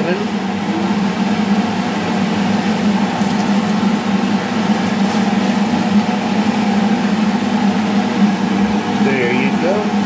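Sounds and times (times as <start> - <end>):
appliance fan humming: 0.0 - 10.0.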